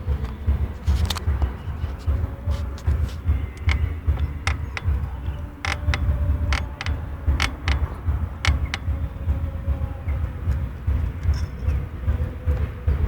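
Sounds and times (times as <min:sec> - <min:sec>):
bike creaking and clicking: 0:00.0 - 0:12.8
low pulsing rumble: 0:00.0 - 0:13.0.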